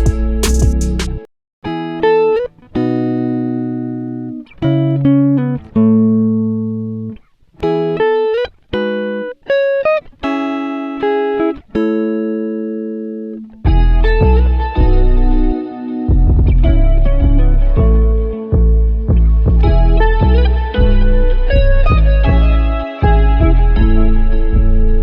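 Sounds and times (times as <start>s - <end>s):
slow plucked guitar: 0.0s - 25.0s.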